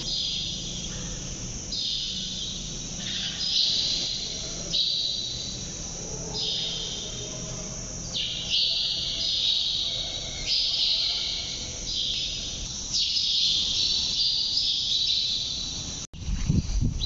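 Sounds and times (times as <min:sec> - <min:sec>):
high chirping of small creatures: 0:00.0 - 0:07.2, 0:07.8 - 0:15.9
low steady hum: 0:00.0 - 0:17.0.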